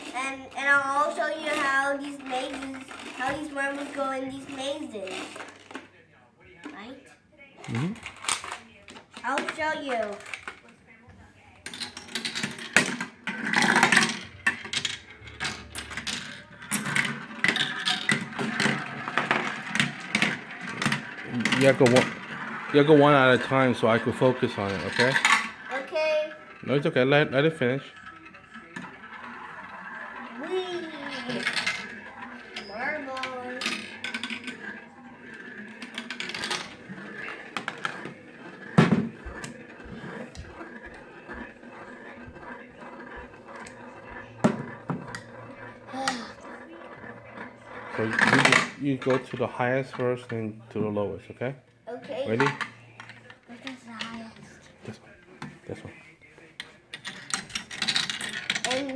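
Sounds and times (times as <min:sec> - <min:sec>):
marbles rolling down a track: 0:00.0 - 0:05.9, 0:07.6 - 0:10.7, 0:11.6 - 0:50.3, 0:56.9 - 0:58.9.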